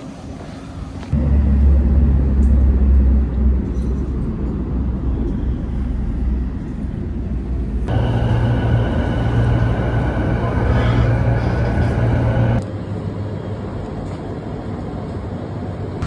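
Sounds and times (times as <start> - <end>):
hum inside moving vehicle: 0.0 - 16.0
road vehicle rumble: 0.0 - 16.0.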